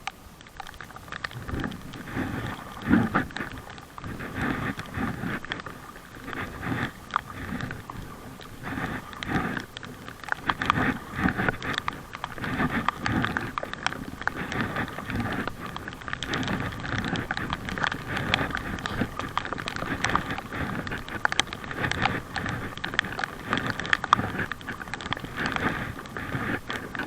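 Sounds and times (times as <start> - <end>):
paddle water splashing: 0.0 - 27.0.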